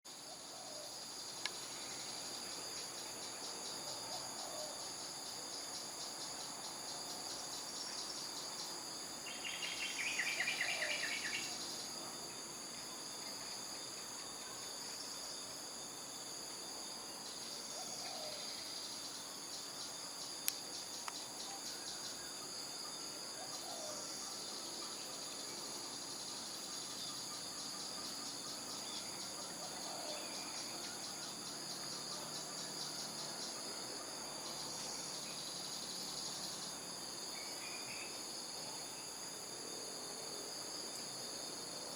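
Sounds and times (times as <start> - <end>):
crickets and cicadas buzzing: 0.1 - 41.9
rapid pulsing insect buzz: 0.1 - 41.9.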